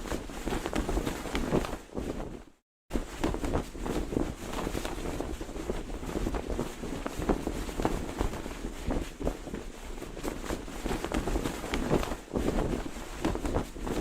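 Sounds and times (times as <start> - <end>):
cloth flag flapping: 0.0 - 14.0.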